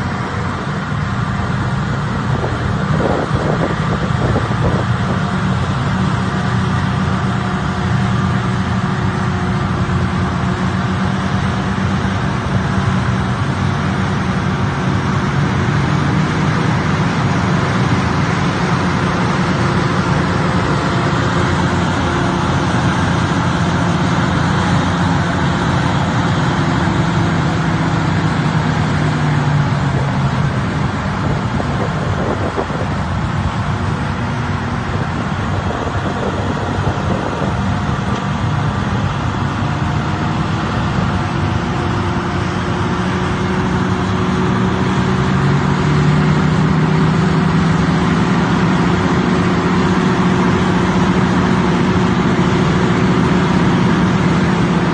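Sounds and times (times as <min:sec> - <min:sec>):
diesel engine drone: 0:00.0 - 0:54.9.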